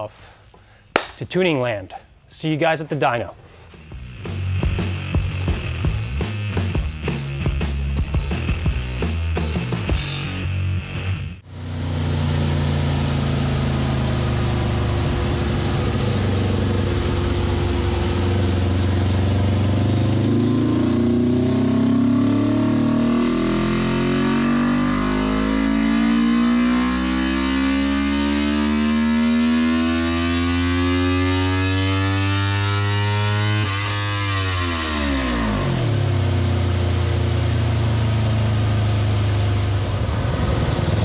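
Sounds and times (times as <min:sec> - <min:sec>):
motorcycle engine revving on dyno: 0:08.1 - 0:41.0.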